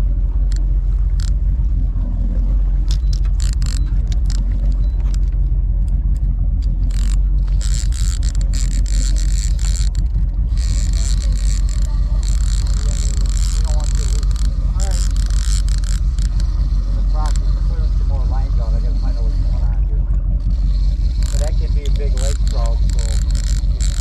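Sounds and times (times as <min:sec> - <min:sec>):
sharp ticks: 0:00.0 - 0:01.5, 0:02.8 - 0:24.0
boat engine rumbling: 0:00.0 - 0:24.0.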